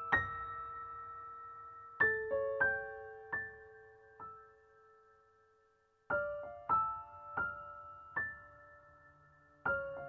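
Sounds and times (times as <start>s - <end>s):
slow soft piano notes: 0.0s - 10.0s.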